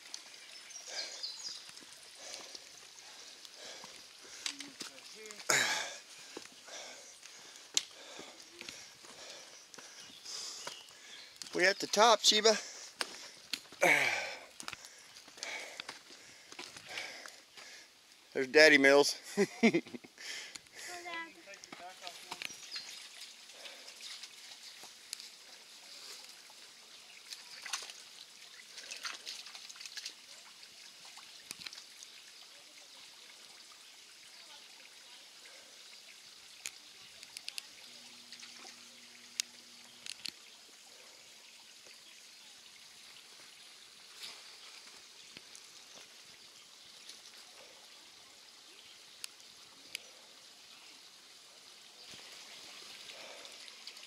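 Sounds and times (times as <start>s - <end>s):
water trickling over rock: 0.0s - 54.0s.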